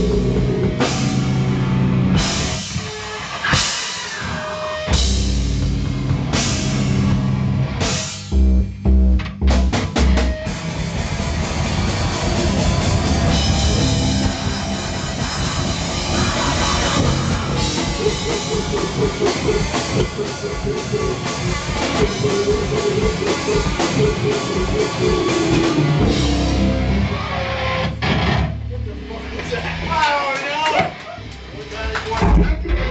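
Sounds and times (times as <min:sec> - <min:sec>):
drum kit and cymbals: 0:00.0 - 0:27.0
heavy rock band playing: 0:00.0 - 0:28.8.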